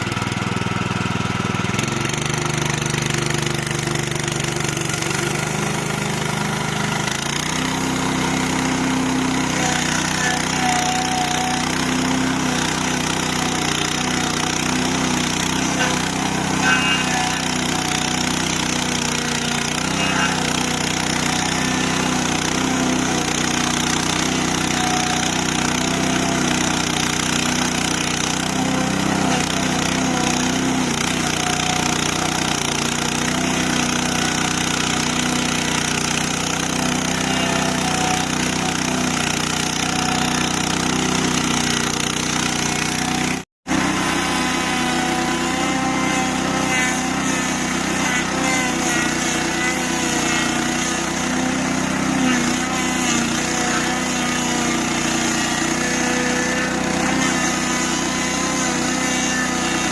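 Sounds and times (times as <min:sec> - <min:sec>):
stump grinder grinding: 0:00.0 - 0:59.9.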